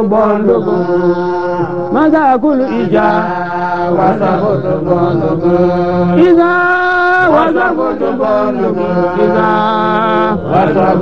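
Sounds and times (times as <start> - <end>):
voice chanting recitation: 0.0 - 11.0.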